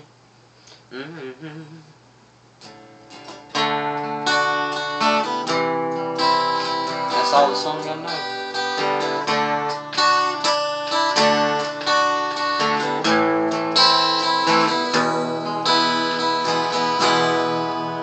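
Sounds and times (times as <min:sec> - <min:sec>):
acoustic guitar strumming: 0:02.6 - 0:18.0.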